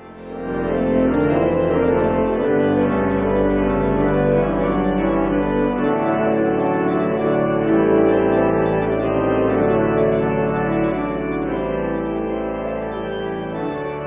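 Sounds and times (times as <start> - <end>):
deep organ pedal notes: 0.0 - 14.0
organ chords: 0.0 - 14.0.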